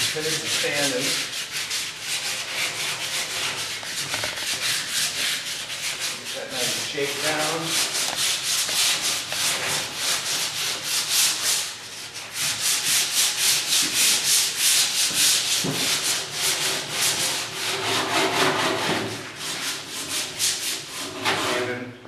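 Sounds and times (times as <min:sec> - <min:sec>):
sandpaper scrubbing back and forth: 0:00.0 - 0:21.8.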